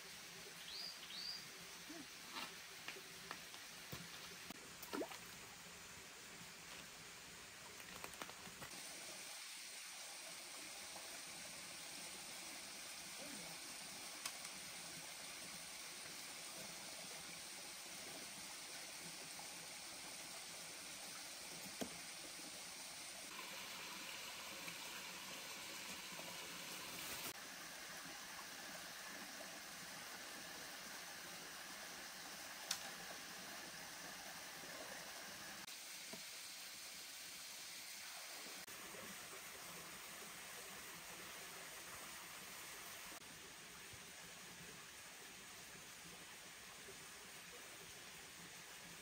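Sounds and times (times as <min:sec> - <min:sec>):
stream trickling over rocks: 0:00.0 - 0:49.0.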